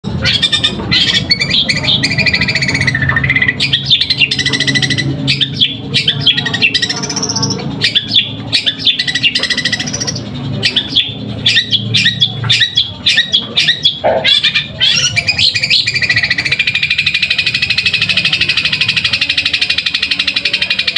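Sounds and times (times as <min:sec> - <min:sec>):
bird chirping and squawking: 0:00.0 - 0:20.9.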